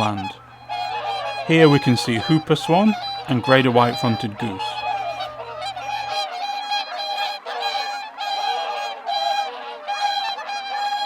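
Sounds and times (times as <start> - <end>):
swans and geese honking: 0.0 - 11.0.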